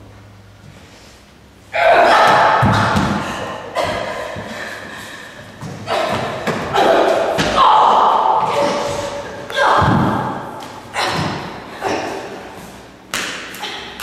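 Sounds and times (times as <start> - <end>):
footwork on studio floor: 0.0 - 14.0.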